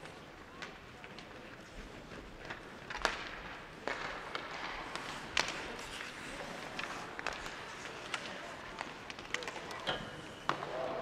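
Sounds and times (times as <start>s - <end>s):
hockey sticks and puck clacking: 0.0s - 11.0s.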